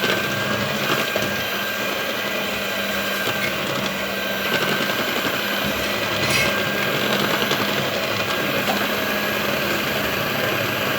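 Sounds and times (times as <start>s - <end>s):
machine whir: 0.0s - 10.9s.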